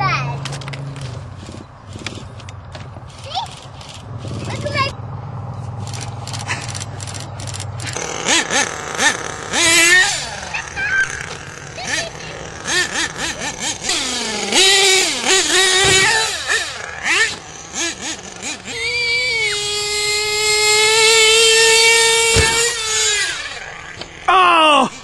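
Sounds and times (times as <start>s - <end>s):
rc truck engine revving: 0.0s - 25.0s.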